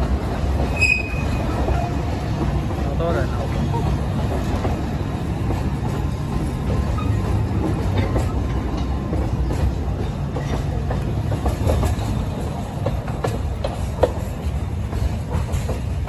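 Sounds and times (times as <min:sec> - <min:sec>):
train rumbling past: 0:00.0 - 0:16.0
wheels clacking on rails: 0:00.0 - 0:16.0.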